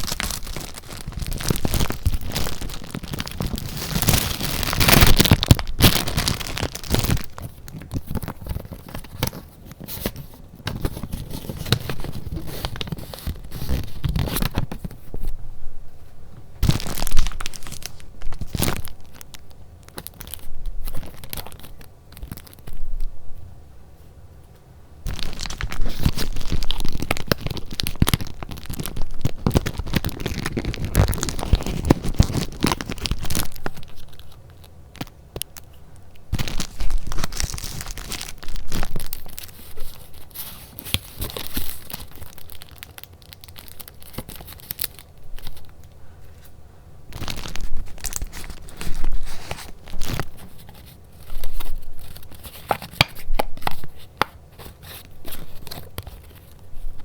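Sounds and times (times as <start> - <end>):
paper rustling and crackling: 0.0 - 15.4, 16.6 - 22.8, 25.1 - 57.0.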